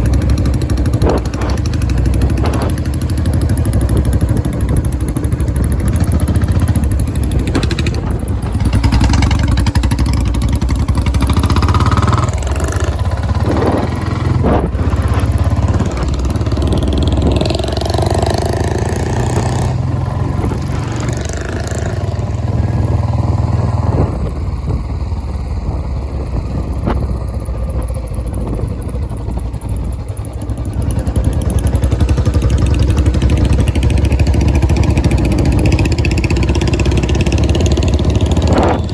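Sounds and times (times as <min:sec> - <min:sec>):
motorcycle engine deep exhaust beat: 0:00.0 - 0:38.9.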